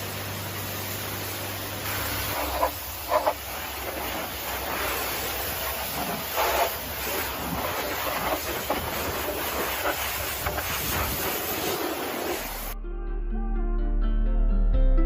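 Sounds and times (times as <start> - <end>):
pressure washer water spray hiss: 0.0 - 12.8.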